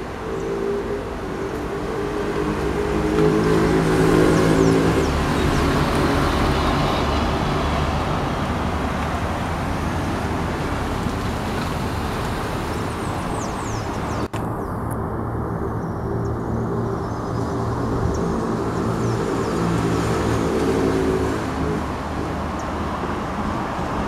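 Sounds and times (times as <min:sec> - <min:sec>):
road traffic noise: 0:00.0 - 0:24.0
vehicle engine hum: 0:00.0 - 0:24.0.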